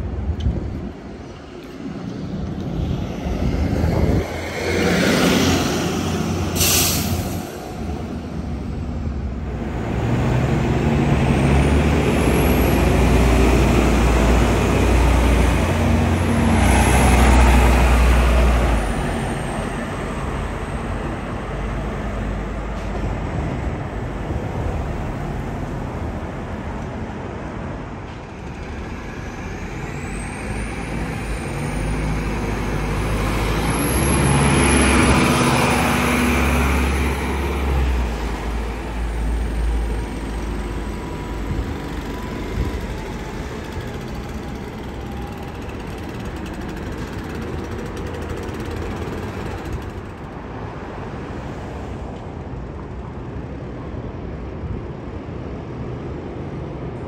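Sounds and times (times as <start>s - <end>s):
diesel bus engines accelerating: 0.0s - 57.0s.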